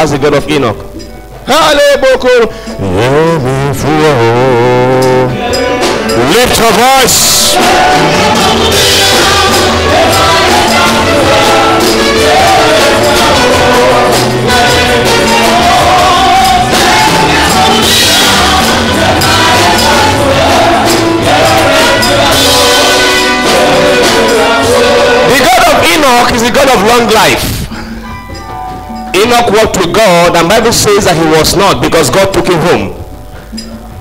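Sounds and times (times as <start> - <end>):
instrumental backing: 0.0 - 34.0
steady percussion: 0.0 - 34.0
congregation singing worship song: 1.5 - 34.0.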